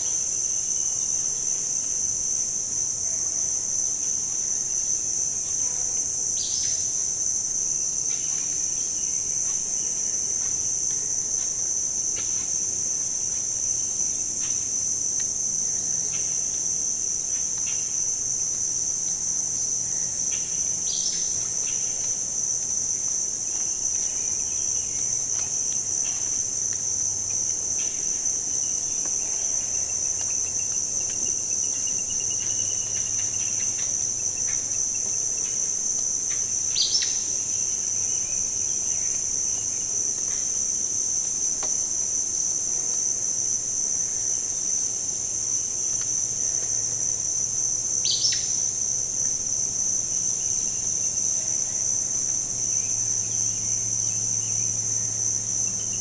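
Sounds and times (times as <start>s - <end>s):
insect chorus trilling: 0.0s - 56.0s.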